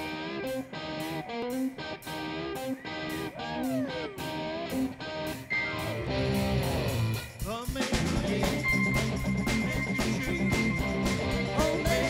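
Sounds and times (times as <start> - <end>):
drums: 0.0 - 12.0
electric guitars playing rock: 0.0 - 12.0.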